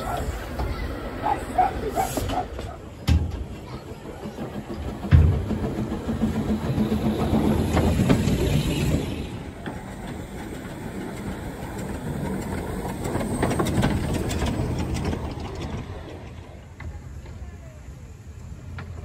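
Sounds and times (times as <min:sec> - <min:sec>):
steam hissing: 0:00.0 - 0:15.5
wheels clanking: 0:00.0 - 0:17.6
steam locomotive passing: 0:00.0 - 0:19.0.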